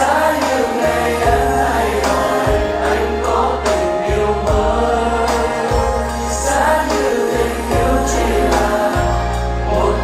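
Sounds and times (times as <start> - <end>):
keyboard: 0.0 - 10.0
man singing: 0.0 - 10.0
steady bass: 0.0 - 10.0.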